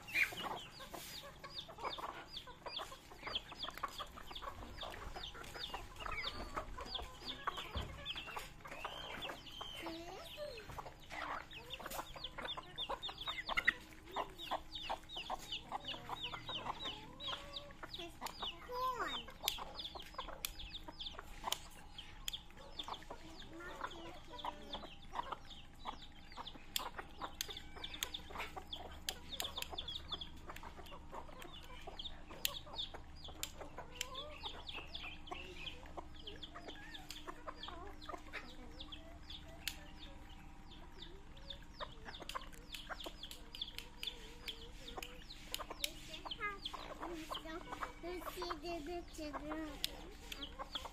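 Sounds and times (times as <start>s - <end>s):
beaks pecking on concrete: 0.0s - 50.9s
chicks peeping: 0.0s - 50.9s
hens clucking: 0.0s - 50.9s.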